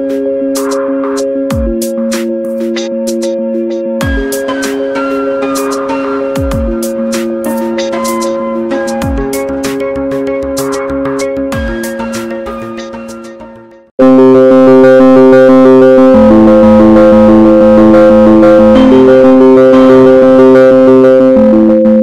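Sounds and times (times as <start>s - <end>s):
synthesizer keyboard music: 0.0s - 22.0s.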